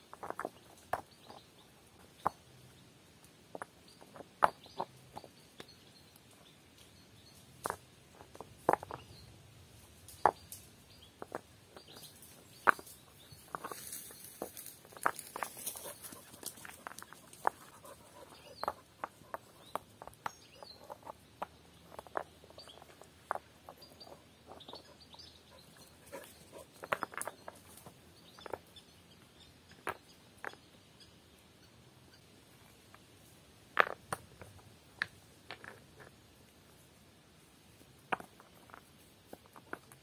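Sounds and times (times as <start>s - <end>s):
stones clacking together: 0.0s - 31.1s, 32.0s - 36.9s, 37.6s - 40.0s.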